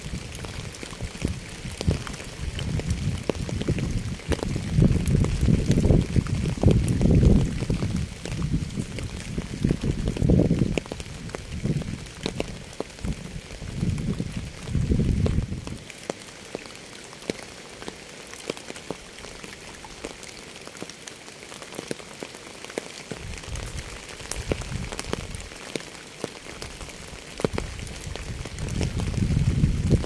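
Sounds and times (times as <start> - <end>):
rain drops clicking: 0.0 - 30.0.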